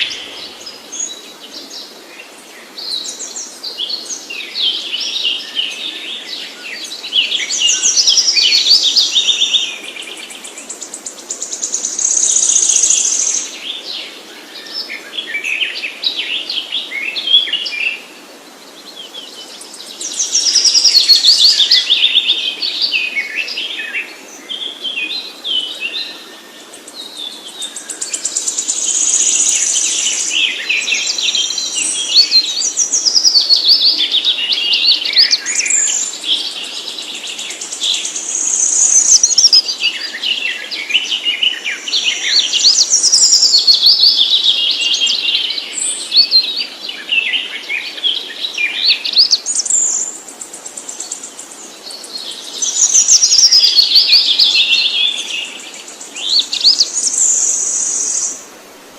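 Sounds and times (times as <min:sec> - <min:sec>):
songbird chirping and trilling: 0:00.0 - 0:18.1, 0:18.7 - 0:58.5.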